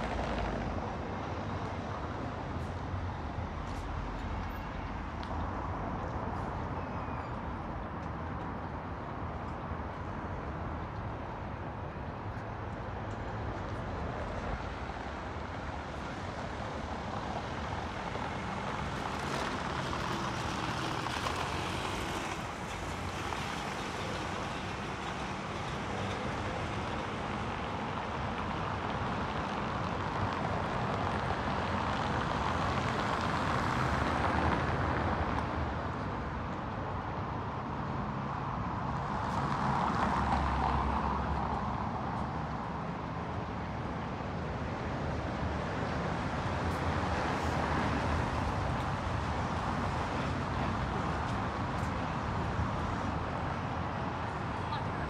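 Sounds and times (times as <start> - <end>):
cars passing on cobblestones: 0.0 - 55.0.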